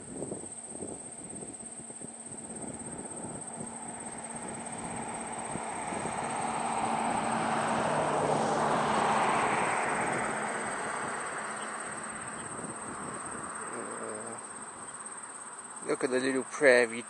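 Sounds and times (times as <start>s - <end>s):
passing engine: 2.7s - 17.0s.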